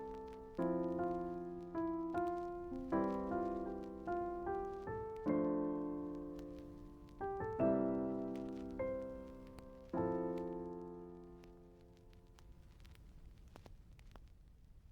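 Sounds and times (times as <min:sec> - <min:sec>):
piano chords: 0:00.0 - 0:12.8.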